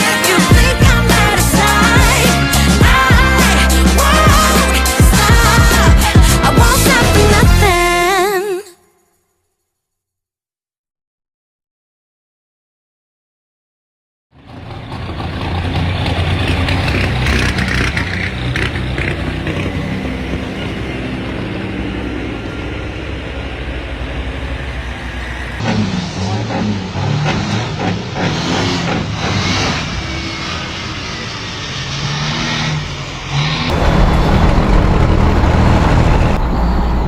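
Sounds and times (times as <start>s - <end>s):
racing truck engines running hard: 0.0s - 7.7s, 14.3s - 37.0s.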